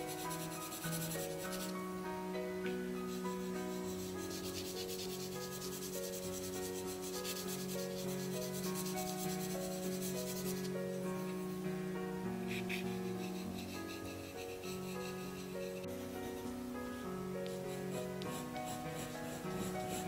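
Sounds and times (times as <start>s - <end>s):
pencil scratching on paper: 0.0s - 1.8s, 3.1s - 11.4s, 12.5s - 16.6s, 17.4s - 20.0s
soft piano music: 0.0s - 20.0s.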